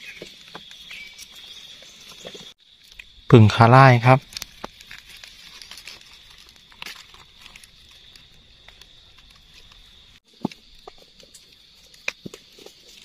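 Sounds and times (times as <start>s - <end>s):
rustling of dry leaves: 0.0s - 13.0s.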